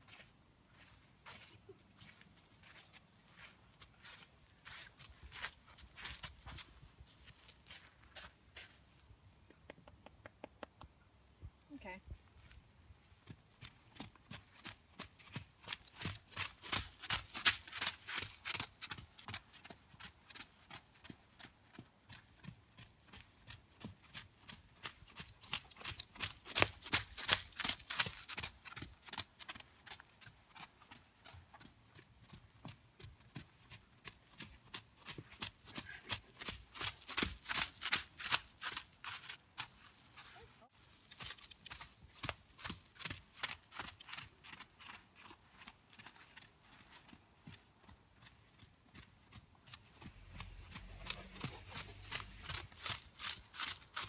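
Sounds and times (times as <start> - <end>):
horse hoofbeats on dirt: 0.0 - 10.3, 12.2 - 54.0.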